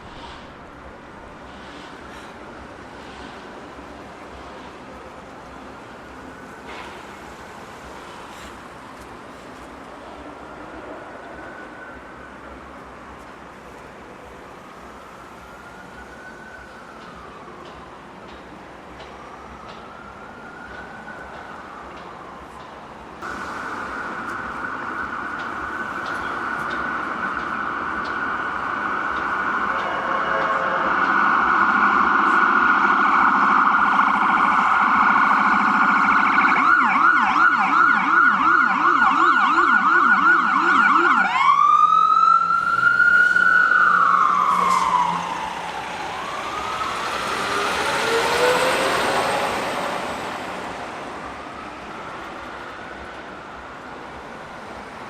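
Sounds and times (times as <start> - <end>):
emergency vehicle siren: 0.0 - 55.0.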